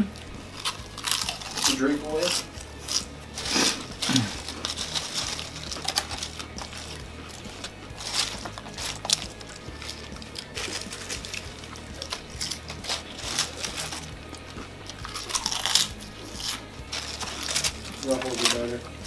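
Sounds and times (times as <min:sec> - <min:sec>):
background music: 0:00.0 - 0:19.0
potato chips crunching: 0:00.0 - 0:19.0.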